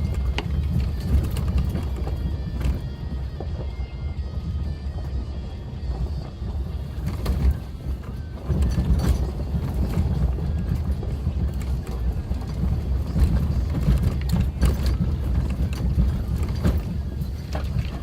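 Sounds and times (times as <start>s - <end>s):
vehicle rumbling on gravel road: 0.0s - 18.0s.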